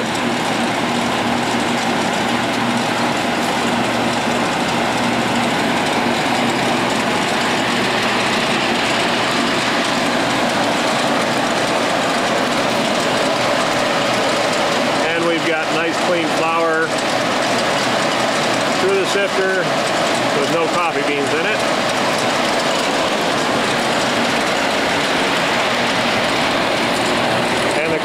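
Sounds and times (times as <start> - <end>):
low motor hum: 0.0 - 28.0
sifter rattling hiss: 0.1 - 28.0.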